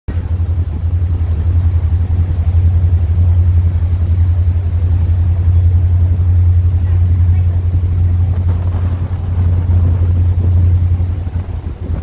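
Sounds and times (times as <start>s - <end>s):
boat engine droning: 0.1s - 12.0s.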